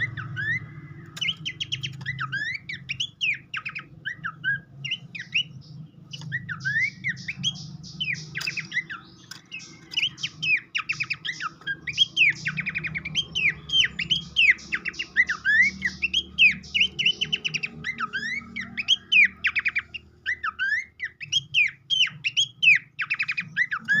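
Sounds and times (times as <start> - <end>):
bird song with whistles and trills: 0.0 - 24.0.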